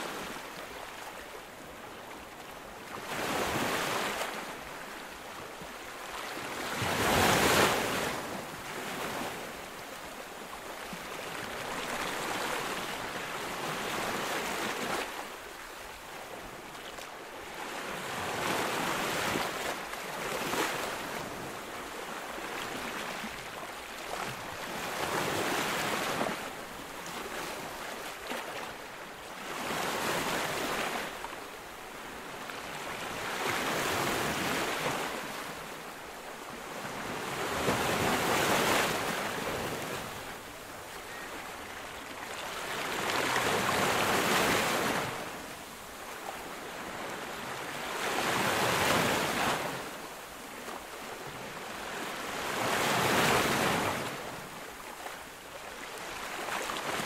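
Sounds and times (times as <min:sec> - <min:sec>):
waves crashing on beach: 0:00.0 - 0:16.7, 0:17.3 - 0:57.0.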